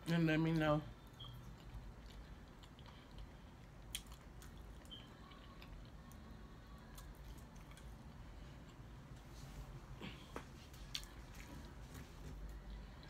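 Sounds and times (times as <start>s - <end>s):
person chewing: 0.6s - 9.1s, 10.1s - 13.0s.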